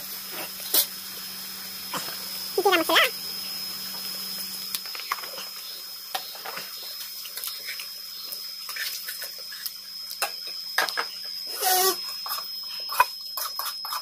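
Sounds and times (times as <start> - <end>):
meat sizzling with crackles: 0.0 - 14.0.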